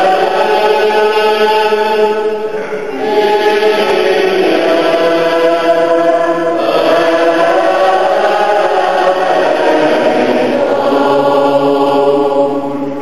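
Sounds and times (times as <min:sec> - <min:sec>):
congregation singing a hymn: 0:00.0 - 0:13.0.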